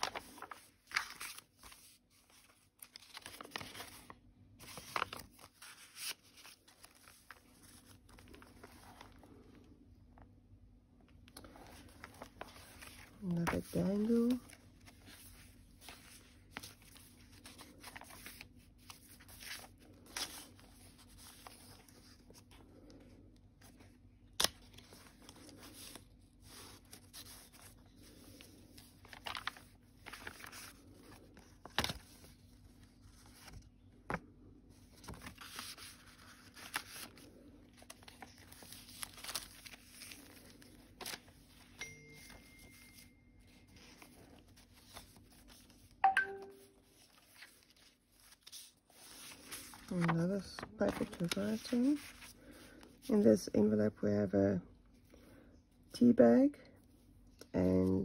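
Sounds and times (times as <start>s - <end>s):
paper pages rustling: 0.0s - 10.4s, 11.0s - 53.4s.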